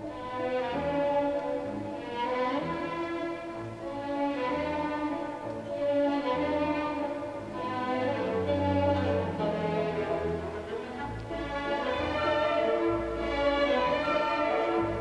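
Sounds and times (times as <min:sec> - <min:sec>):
orchestral strings held notes: 0:00.0 - 0:15.0.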